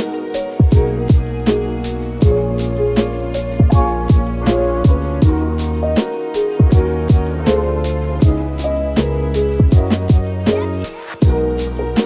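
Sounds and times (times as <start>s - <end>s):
lo-fi hip-hop instrumental: 0.0s - 12.0s.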